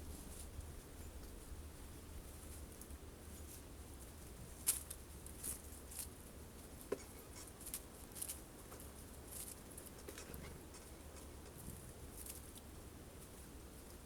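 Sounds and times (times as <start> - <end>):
birds pecking at seeds: 2.3 - 14.0.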